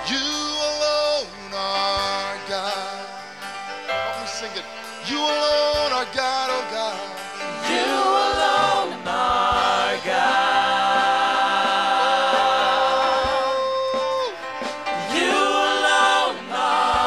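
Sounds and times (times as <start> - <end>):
gospel choir singing: 0.0 - 17.0
low musical backing: 0.0 - 17.0.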